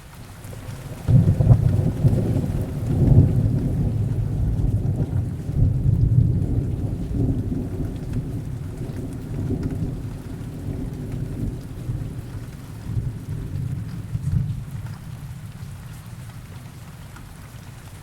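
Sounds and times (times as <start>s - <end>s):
heavy rain falling: 0.0s - 18.0s
rolling thunder rumble: 0.5s - 16.8s.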